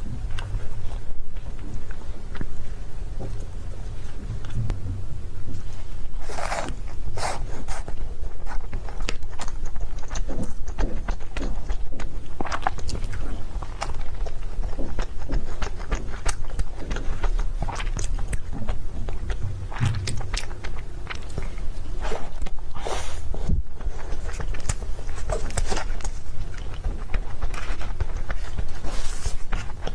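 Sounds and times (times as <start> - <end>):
low rumble: 0.0 - 9.6, 11.9 - 28.9
wet chewing mouth clicks: 0.0 - 29.9.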